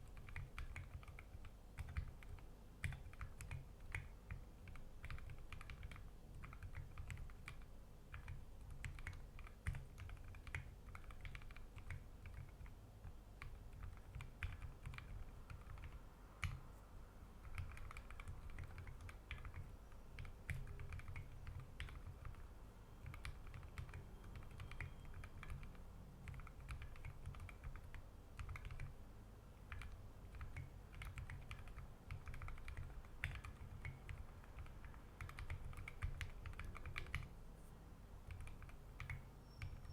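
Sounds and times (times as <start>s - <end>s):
mechanical keyboard typing: 0.0s - 16.7s, 17.4s - 29.0s, 29.6s - 37.4s, 38.2s - 39.9s.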